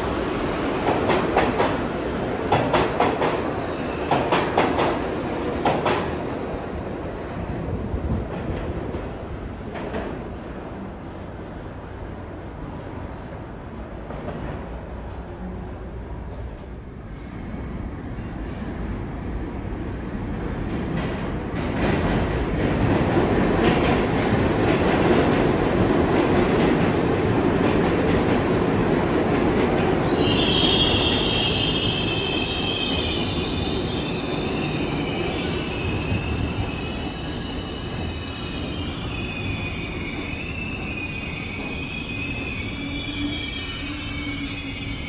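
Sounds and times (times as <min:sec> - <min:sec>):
subway train rumbling on track: 0:00.0 - 0:45.0.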